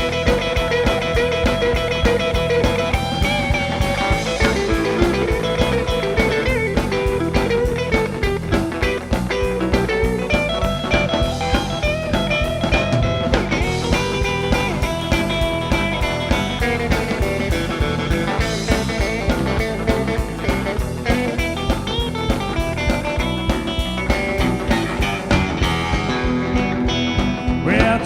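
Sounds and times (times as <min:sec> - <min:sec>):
electric guitar lead: 0:00.0 - 0:28.0
steady drum beat: 0:00.0 - 0:28.0.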